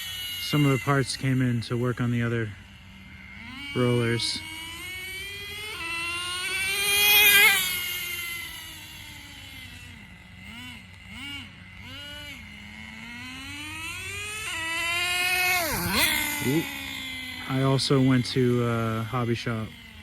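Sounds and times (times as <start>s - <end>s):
rc car engine revving: 0.0s - 20.0s.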